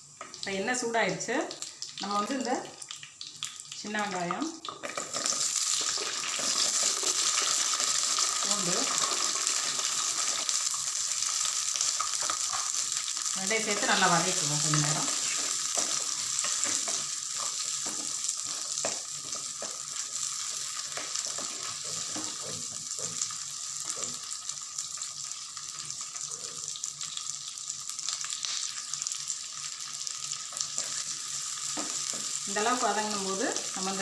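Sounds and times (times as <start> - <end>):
shallots and garlic sizzling in oil: 0.0 - 34.0.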